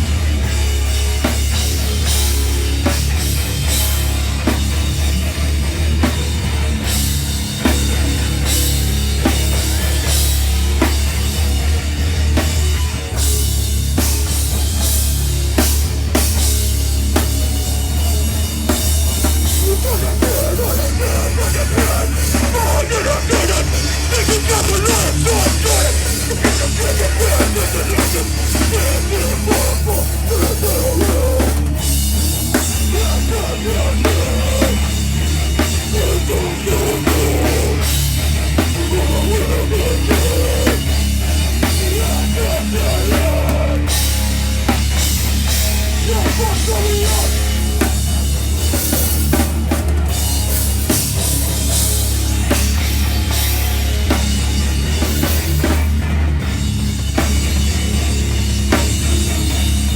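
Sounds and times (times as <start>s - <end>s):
heavy rock band playing loudly: 0.0s - 59.9s.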